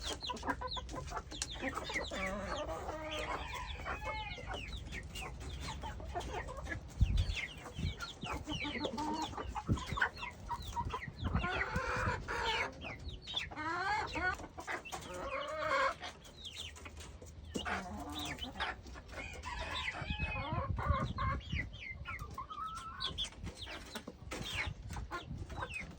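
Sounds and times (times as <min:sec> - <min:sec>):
hens clucking: 0:00.0 - 0:25.9.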